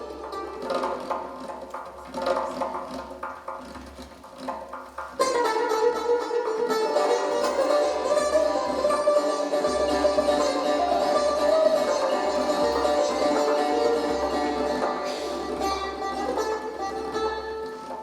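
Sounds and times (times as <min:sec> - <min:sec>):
traditional ensemble music: 0:00.0 - 0:18.0.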